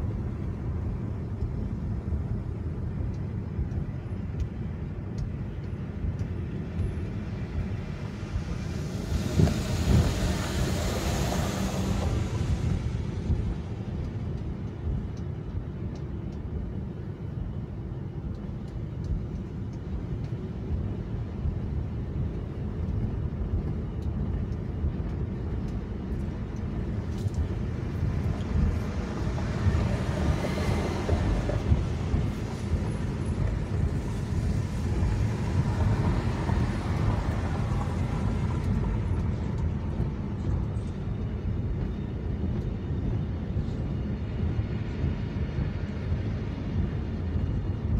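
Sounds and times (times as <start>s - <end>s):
car engine and tyres rumbling: 0.0s - 47.9s
hissy road noise: 0.0s - 47.9s.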